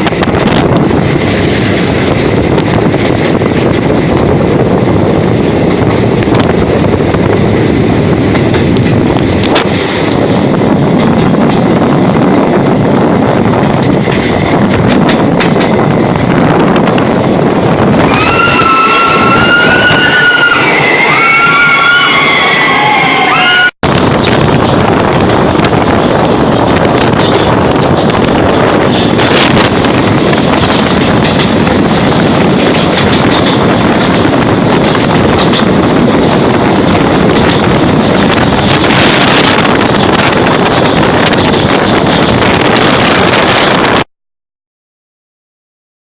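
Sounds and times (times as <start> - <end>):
train rumbling: 0.0 - 44.1
wind on microphone: 0.0 - 44.1.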